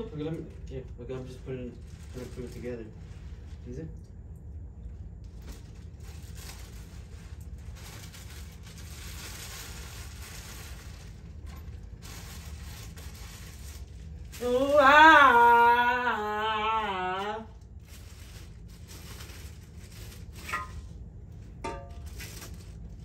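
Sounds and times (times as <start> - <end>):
plastic bags and paper rustling: 0.0 - 3.7, 5.2 - 15.6, 17.0 - 23.0.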